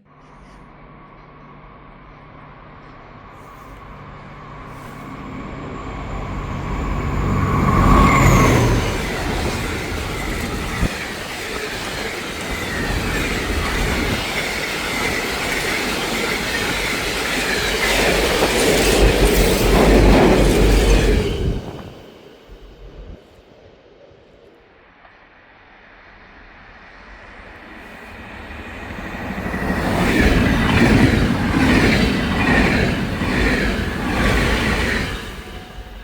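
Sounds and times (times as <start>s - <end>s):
train wheels rumbling on track: 0.0s - 24.2s, 24.9s - 36.0s
train high whine: 0.0s - 36.0s.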